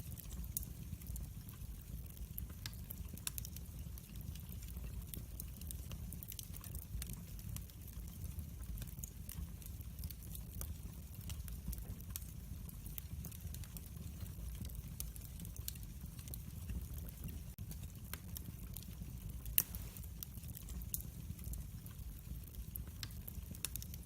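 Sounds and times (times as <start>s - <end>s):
low rumble of flames: 0.0s - 24.0s
wood fire popping and snapping: 0.0s - 24.0s.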